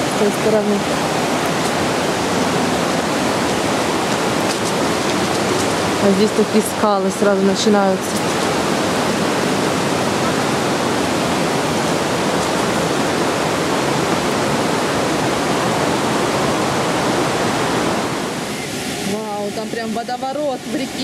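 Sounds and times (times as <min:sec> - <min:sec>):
mountain river rushing: 0:00.0 - 0:21.0.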